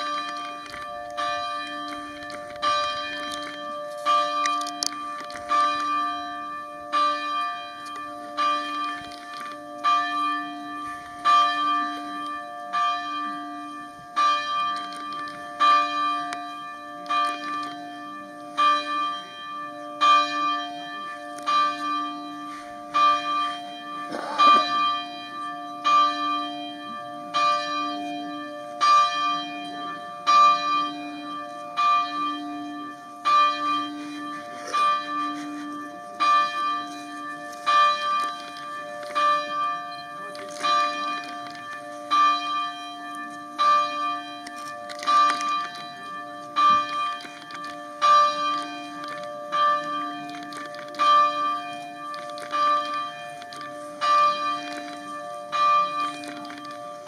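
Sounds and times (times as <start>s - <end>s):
church bell tolling: 0.0s - 57.0s.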